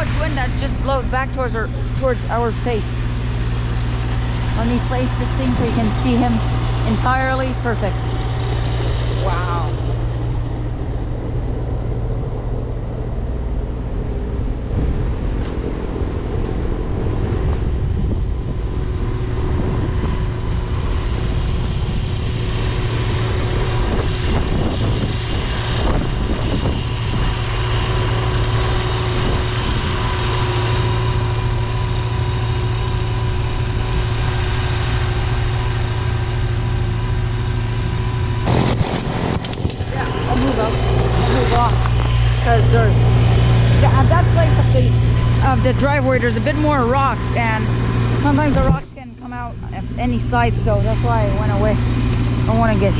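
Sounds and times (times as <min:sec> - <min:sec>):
snowblower engine droning: 0:00.0 - 0:52.9
wind buffeting microphone: 0:00.0 - 0:52.9.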